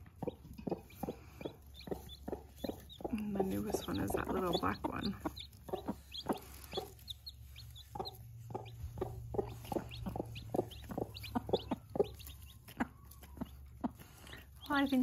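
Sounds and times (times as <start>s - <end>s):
chicks peeping: 0.0s - 15.0s
hens clucking: 0.0s - 15.0s.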